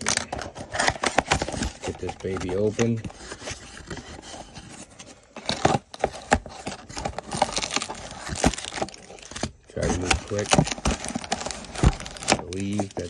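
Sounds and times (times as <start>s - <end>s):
cardboard scraping and rubbing: 0.0s - 13.0s.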